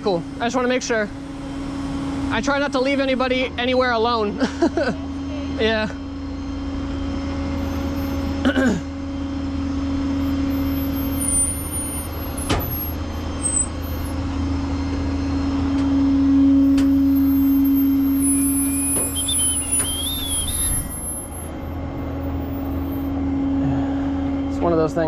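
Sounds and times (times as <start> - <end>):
truck engine running with whine: 0.0 - 25.0.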